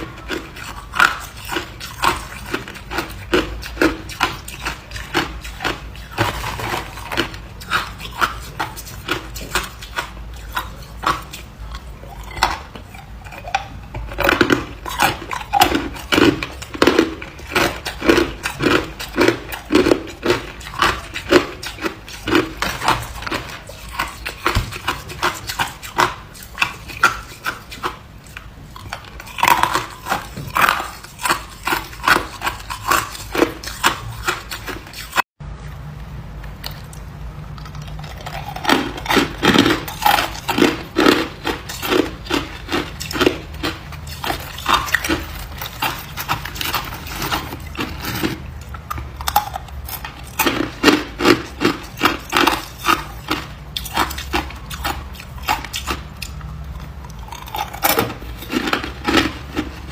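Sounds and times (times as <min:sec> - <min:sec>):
ice being chewed: 0:00.0 - 0:35.2, 0:36.5 - 0:59.9.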